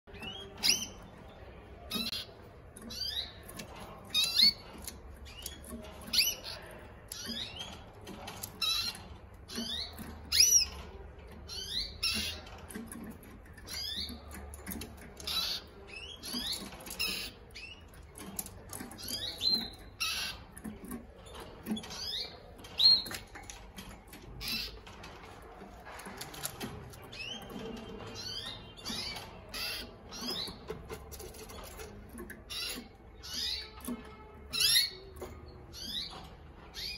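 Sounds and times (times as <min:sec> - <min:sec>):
canaries chirping: 0:00.0 - 0:36.9.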